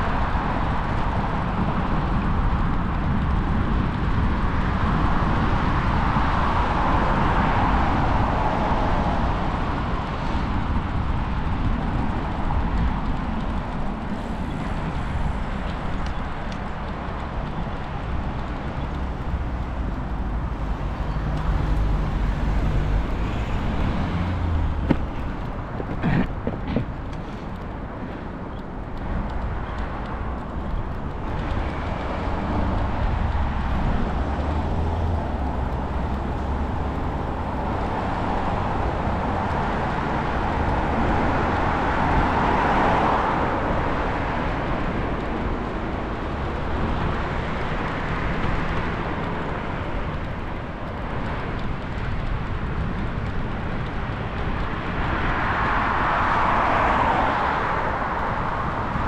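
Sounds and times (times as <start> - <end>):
road traffic: 0.0 - 59.0.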